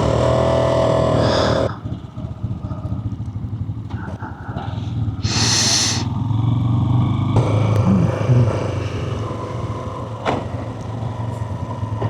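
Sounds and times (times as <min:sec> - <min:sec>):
motorcycle engine running: 0:00.0 - 0:05.2, 0:06.1 - 0:12.0.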